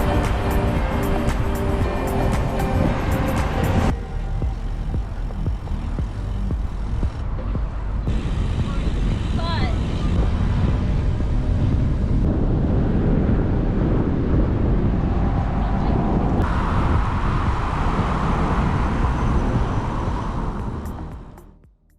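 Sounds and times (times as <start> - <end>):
wind rushing over microphone: 0.0 - 21.6
road and tyre noise: 0.0 - 21.9.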